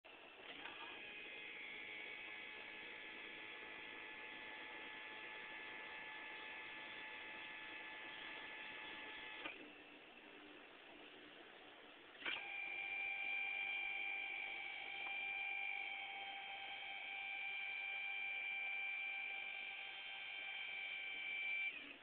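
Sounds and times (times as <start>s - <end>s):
faint hum: 0.1s - 22.0s
electric motor humming and whining: 0.5s - 9.6s, 12.3s - 22.0s.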